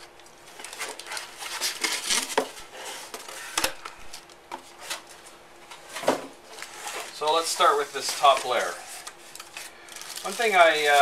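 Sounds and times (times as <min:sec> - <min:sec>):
cardboard and plastic rustling: 0:00.0 - 0:11.0.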